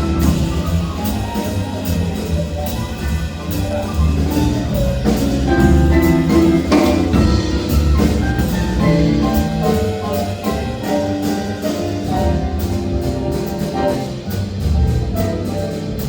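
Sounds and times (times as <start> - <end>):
band playing instrumental: 0.0 - 16.0
drums steady beat: 0.0 - 16.0.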